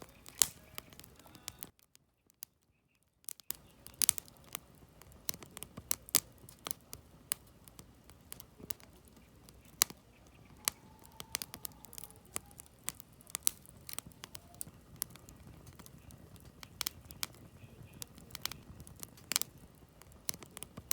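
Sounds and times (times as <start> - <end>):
campfire crackling and popping: 0.0 - 20.9.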